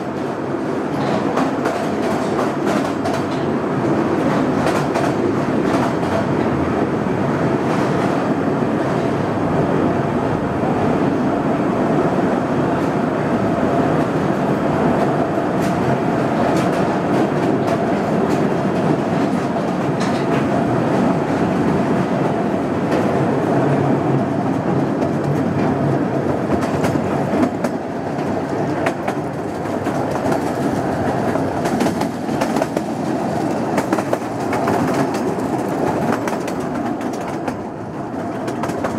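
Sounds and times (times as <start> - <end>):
rail joint clicks: 0.0 - 9.4, 13.9 - 38.9
train wheels rumbling on rail: 0.0 - 38.9.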